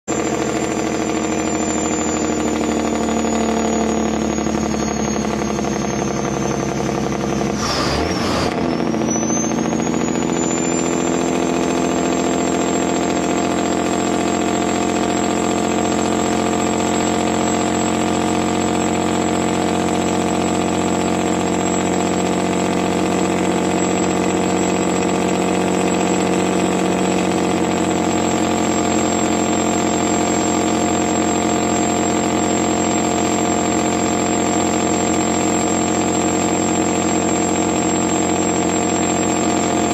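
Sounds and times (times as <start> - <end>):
truck engine running: 0.0 - 39.9
high whine: 0.1 - 39.9.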